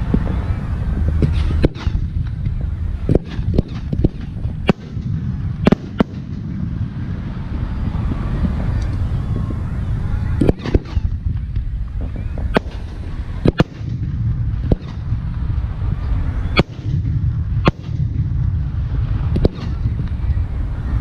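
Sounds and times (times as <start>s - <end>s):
fireworks bangs: 0.0s - 20.6s
steady low rumble: 0.0s - 21.0s.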